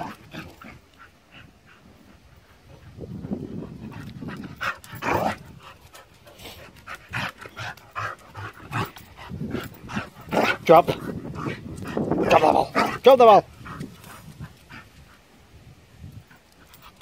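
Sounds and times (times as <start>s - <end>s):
dog panting: 0.0s - 15.4s.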